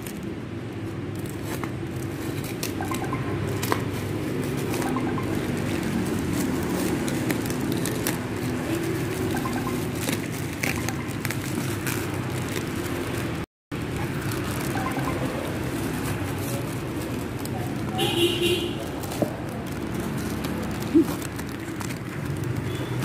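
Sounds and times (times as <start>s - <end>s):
paper and plastic tearing: 0.0s - 18.1s, 18.8s - 23.0s.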